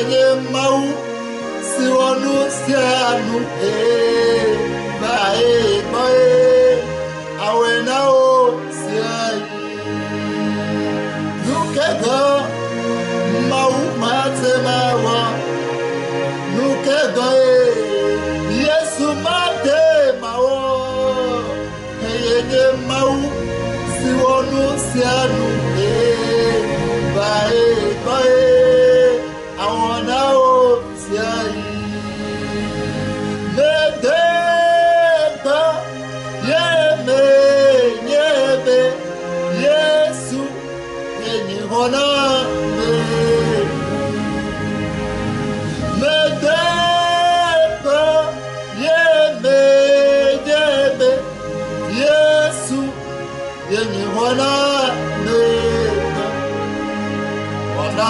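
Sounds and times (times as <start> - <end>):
man singing a hymn: 0.0 - 58.0
sustained accompaniment: 0.0 - 58.0.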